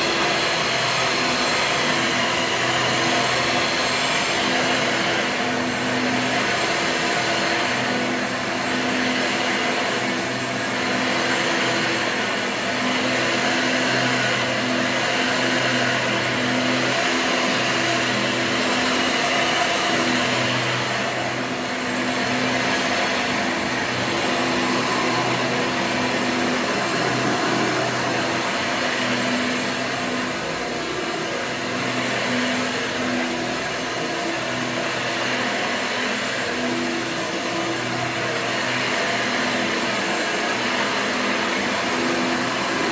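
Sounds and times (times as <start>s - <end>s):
upright vacuum cleaner running: 0.0s - 42.9s.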